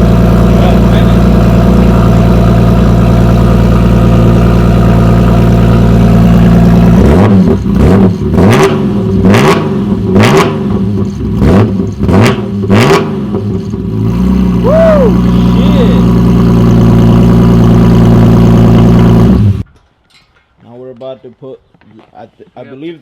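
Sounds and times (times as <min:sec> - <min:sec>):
car engine revving without muffler: 0:00.0 - 0:19.6.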